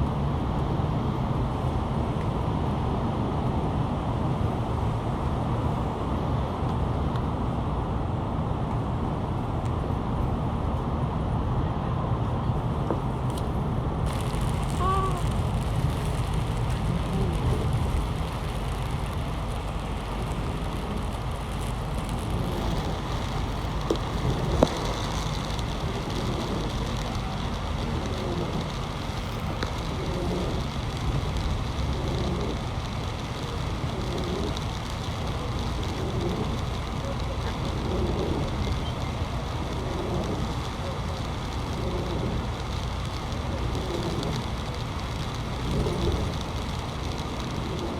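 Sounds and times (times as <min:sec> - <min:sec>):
road traffic rumble: 0:00.0 - 0:47.9.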